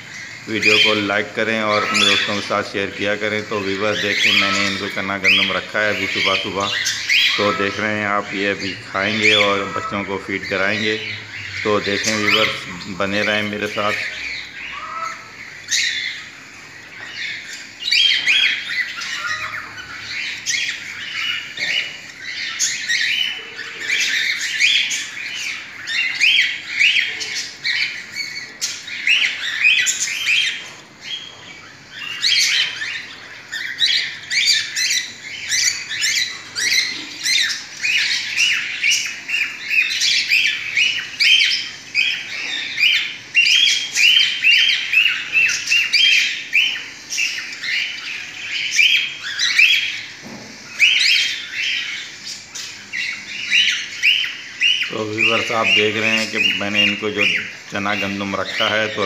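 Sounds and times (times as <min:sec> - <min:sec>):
cockatiels squawking: 0:00.0 - 0:59.0.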